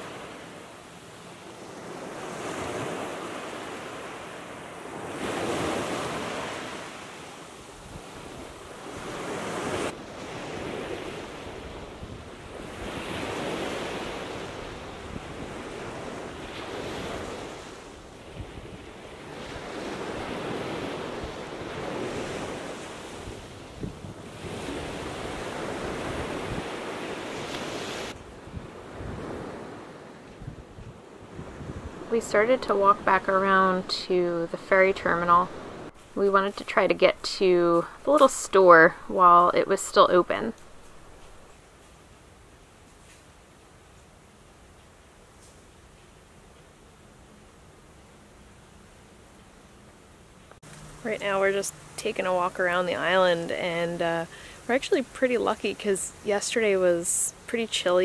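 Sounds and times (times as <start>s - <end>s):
small waves breaking on beach: 0.0s - 48.0s, 50.6s - 58.0s.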